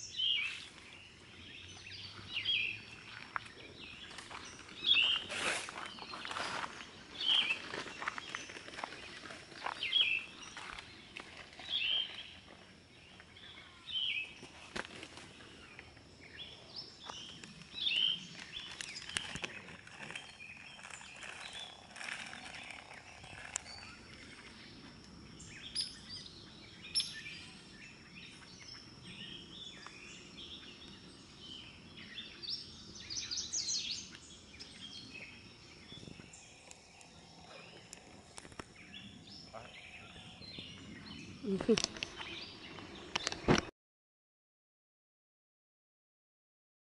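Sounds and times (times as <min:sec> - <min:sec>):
wild birds chirping: 0:00.0 - 0:43.7.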